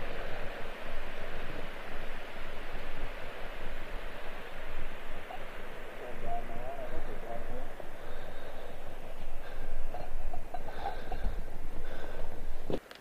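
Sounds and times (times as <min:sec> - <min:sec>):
lake water lapping: 0:00.0 - 0:12.8
wind rushing: 0:00.0 - 0:12.8.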